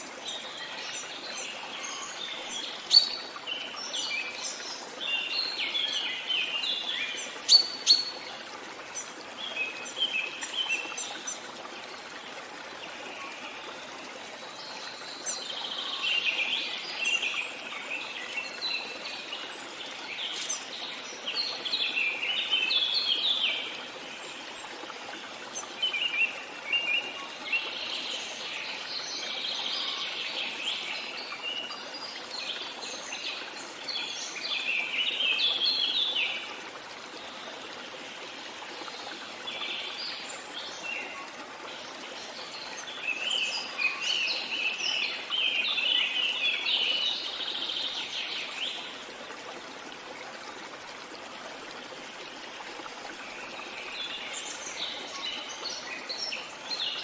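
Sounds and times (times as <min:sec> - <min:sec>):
songbirds chirping: 0:00.0 - 0:51.1
flowing water rushing: 0:00.0 - 0:57.0.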